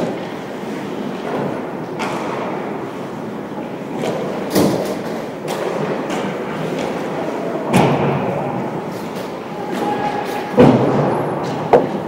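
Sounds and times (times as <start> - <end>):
game noise in a large hall: 0.0 - 12.0.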